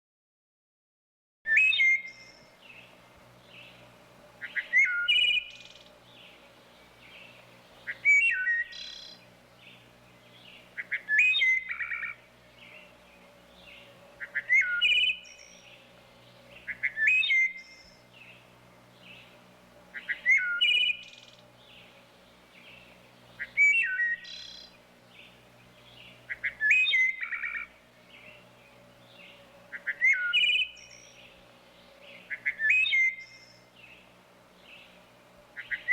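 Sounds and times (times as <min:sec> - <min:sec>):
faint bird chirps: 0:01.5 - 0:35.0, 0:35.6 - 0:35.9.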